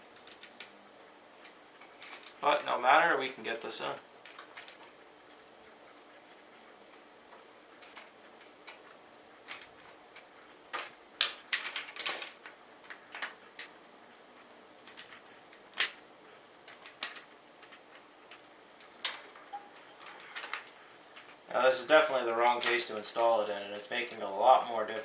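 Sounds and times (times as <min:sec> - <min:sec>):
clicks and clacks of plastic parts: 0:00.0 - 0:00.7, 0:01.4 - 0:02.7, 0:04.2 - 0:05.0, 0:05.6 - 0:13.8, 0:14.8 - 0:16.0, 0:16.6 - 0:25.0.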